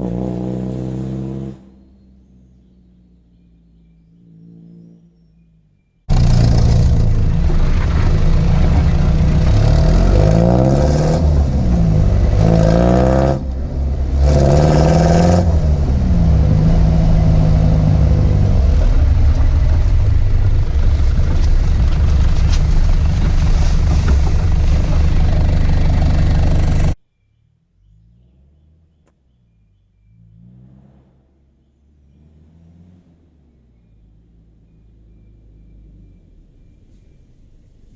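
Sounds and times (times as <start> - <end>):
diesel engine revving while driving: 0.0 - 5.4, 6.1 - 27.0, 30.0 - 37.1.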